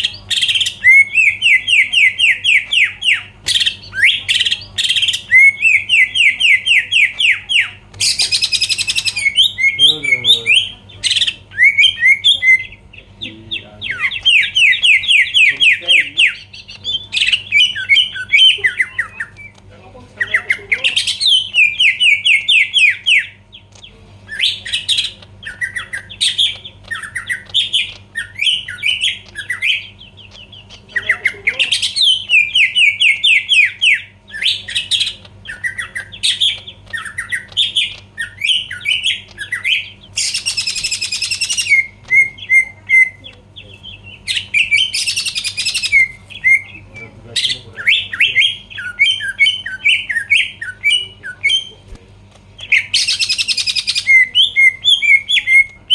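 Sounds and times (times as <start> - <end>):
bird whistled song: 0.0 - 19.6, 20.2 - 51.8, 52.6 - 55.9
faint low hum: 0.0 - 55.9.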